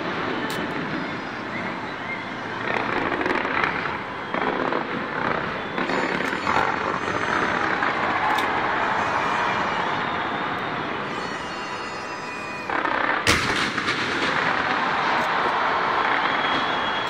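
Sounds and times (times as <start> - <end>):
fireworks crackling bursts: 0.0 - 17.0.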